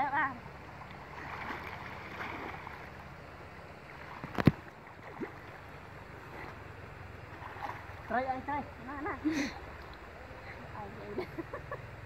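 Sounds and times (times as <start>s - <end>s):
river water hissing: 0.0s - 12.0s.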